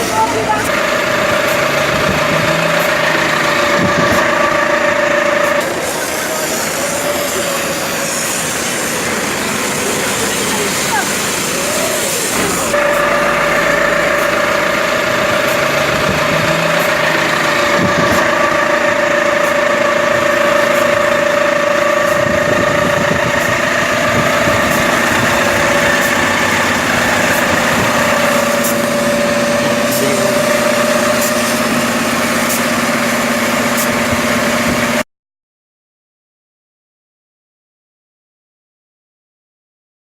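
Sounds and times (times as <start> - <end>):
motor vehicle engine droning: 0.0 - 35.0.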